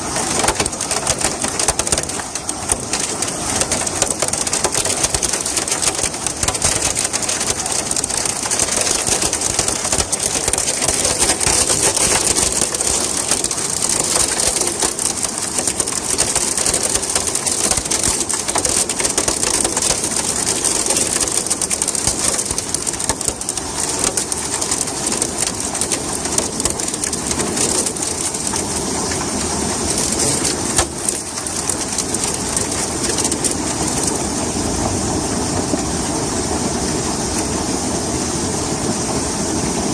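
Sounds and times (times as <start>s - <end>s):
hail and heavy rain pelting: 0.0s - 39.9s.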